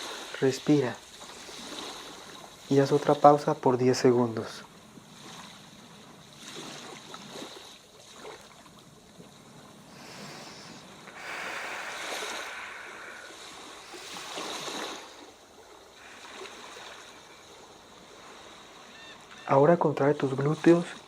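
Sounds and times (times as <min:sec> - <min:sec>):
sea waves washing onto shore: 0:00.0 - 0:21.0.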